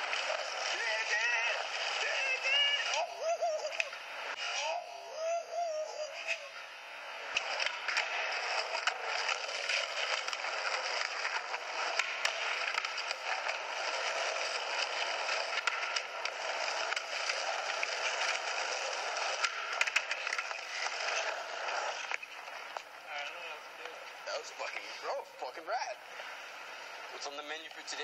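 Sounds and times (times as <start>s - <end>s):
skateboard wheels rolling on concrete: 0.0s - 4.9s, 5.5s - 28.0s.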